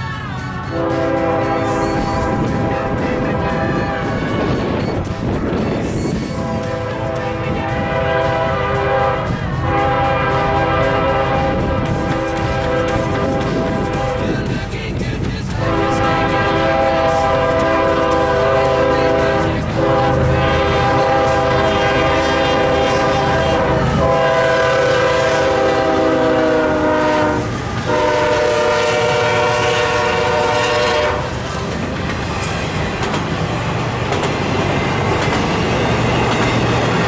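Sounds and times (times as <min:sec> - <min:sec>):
train air horn blasts: 0:00.0 - 0:14.6, 0:15.5 - 0:31.5
train rumble: 0:00.0 - 0:37.0.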